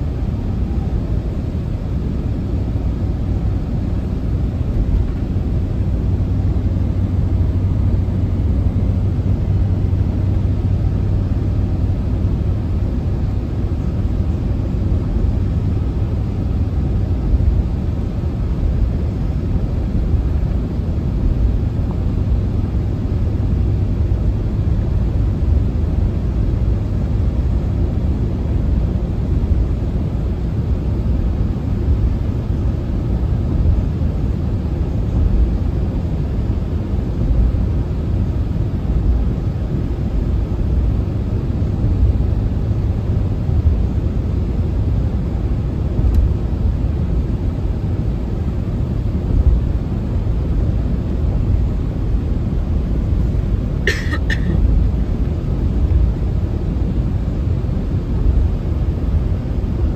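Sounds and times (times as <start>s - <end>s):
road and engine rumble in cabin: 0.0s - 59.9s
steady low hum: 0.0s - 59.9s.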